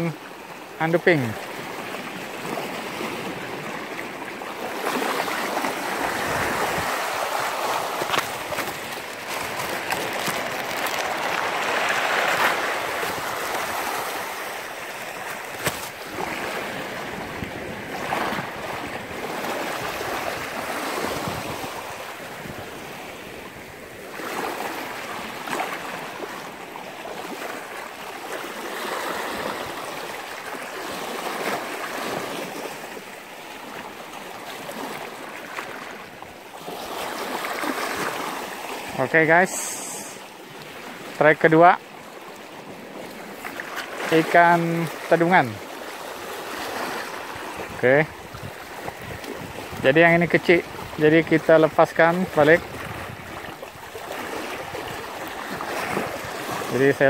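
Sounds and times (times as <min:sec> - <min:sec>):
small waves lapping at shore: 0:00.0 - 0:57.0.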